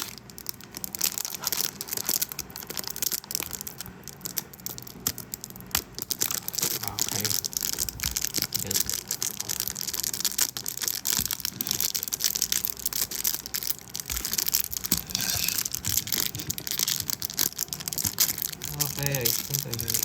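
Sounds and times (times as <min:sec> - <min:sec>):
plastic wrap crinkling: 0:00.0 - 0:20.0.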